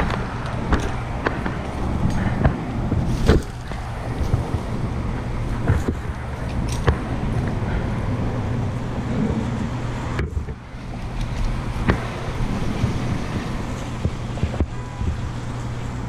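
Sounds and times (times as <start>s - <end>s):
low engine hum: 0.0s - 16.0s
rushing wind-like noise: 0.0s - 16.0s.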